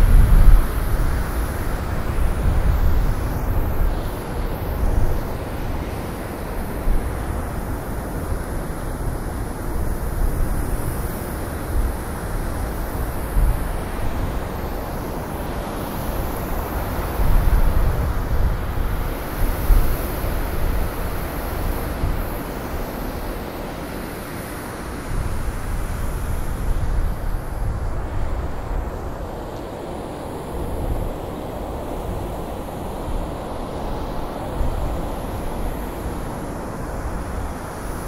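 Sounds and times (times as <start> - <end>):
gusting blizzard wind: 0.0 - 38.0.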